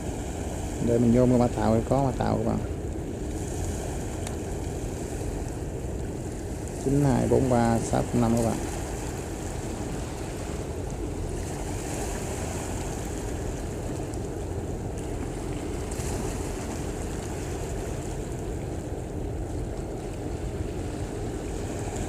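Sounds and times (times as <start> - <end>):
ship engine low rumble: 0.0 - 22.0
water wash: 0.0 - 22.0.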